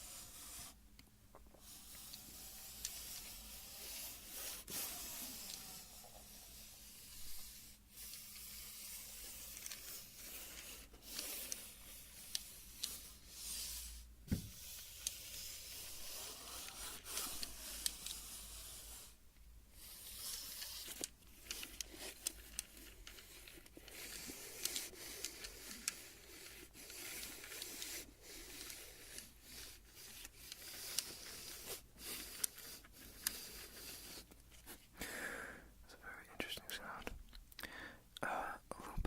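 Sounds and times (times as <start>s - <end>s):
tape measure scratchy sliding: 0.0s - 0.8s, 1.6s - 19.2s, 19.8s - 34.3s.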